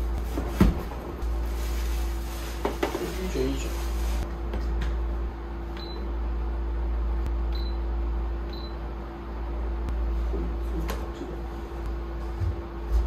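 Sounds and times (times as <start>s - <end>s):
fan low hum: 0.0s - 13.0s.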